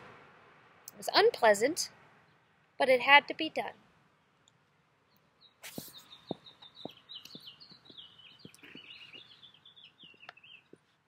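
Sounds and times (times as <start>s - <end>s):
songbird chirping: 0.8s - 2.8s, 3.4s - 11.0s.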